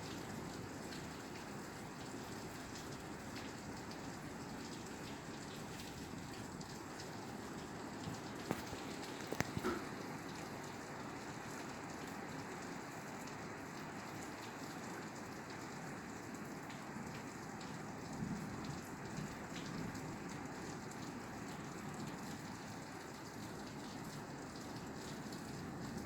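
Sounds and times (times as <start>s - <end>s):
rain on a roof: 0.0s - 26.0s.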